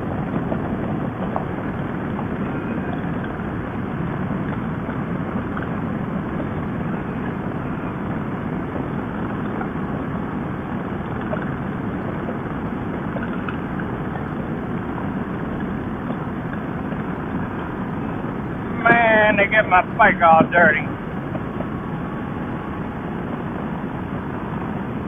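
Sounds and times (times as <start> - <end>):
motorcycle engine drone: 0.0 - 25.0
wind rush: 0.0 - 25.0.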